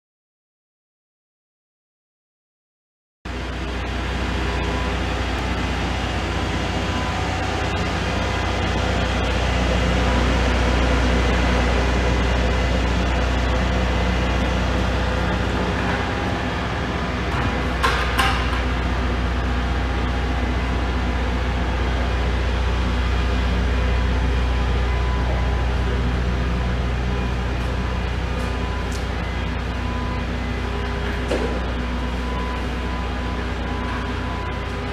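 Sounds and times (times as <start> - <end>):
machinery hum: 3.3 - 34.9.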